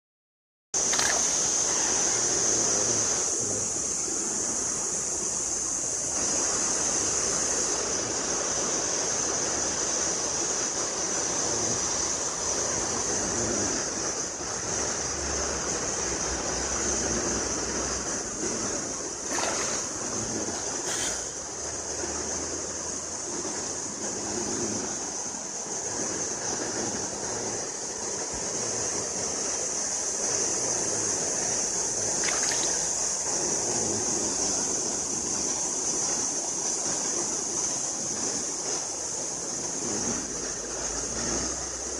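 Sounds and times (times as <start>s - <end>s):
stream water rushing: 0.8s - 41.9s.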